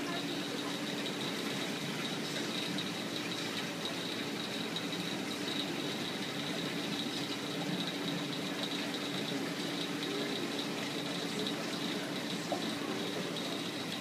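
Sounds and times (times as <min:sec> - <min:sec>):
aquarium equipment hum: 0:00.0 - 0:14.0.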